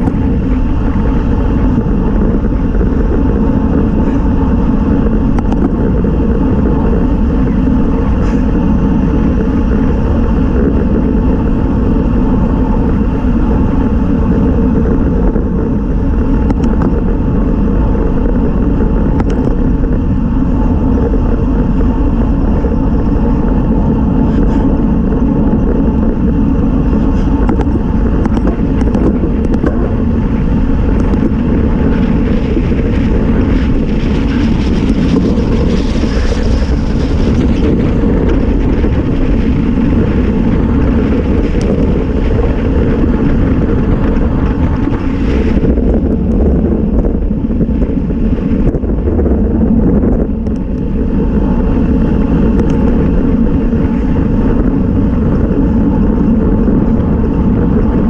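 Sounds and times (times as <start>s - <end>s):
tyres humming on asphalt: 0.0s - 58.0s
wind rush on microphone: 0.0s - 58.0s.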